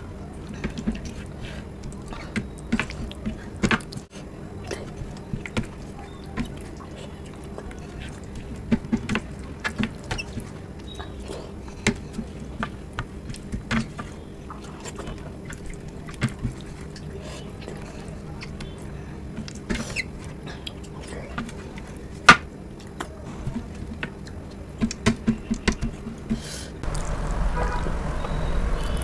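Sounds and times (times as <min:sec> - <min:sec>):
fingers squeezing food: 0:00.0 - 0:27.4
wet chewing smacks: 0:00.1 - 0:26.0, 0:26.8 - 0:29.0.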